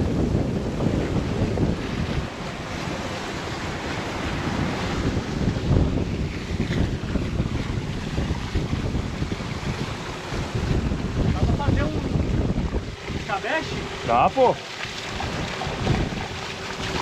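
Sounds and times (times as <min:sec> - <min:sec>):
sea rushing along hull: 0:00.0 - 0:17.0
wind buffeting microphone: 0:00.0 - 0:17.0.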